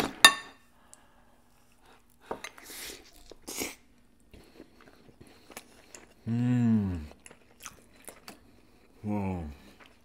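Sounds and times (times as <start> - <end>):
soft eating mouth sounds: 0.9 - 10.0.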